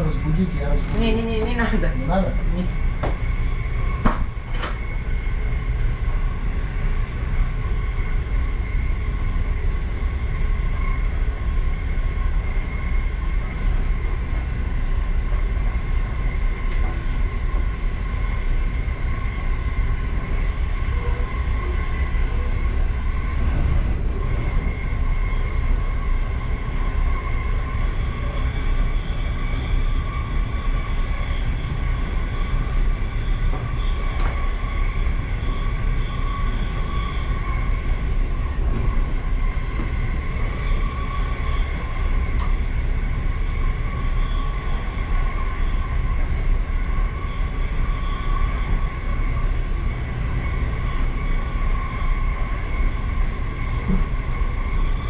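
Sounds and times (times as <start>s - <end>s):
train wheels rumbling on rails: 0.0s - 55.0s
train whine: 0.0s - 55.0s.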